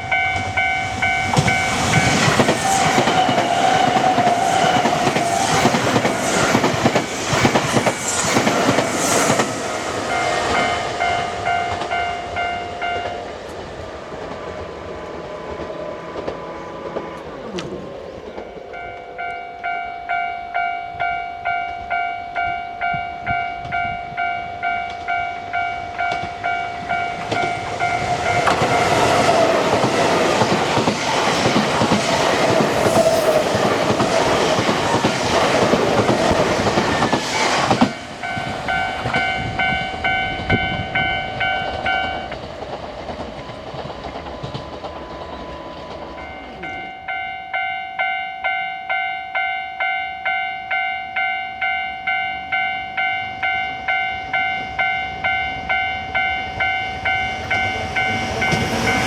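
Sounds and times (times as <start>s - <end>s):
level crossing warning bell: 0.0s - 7.7s, 9.1s - 13.8s, 15.0s - 42.5s, 43.3s - 59.0s
train wheels clattering over rails: 0.0s - 19.7s, 22.8s - 47.0s, 54.6s - 59.0s.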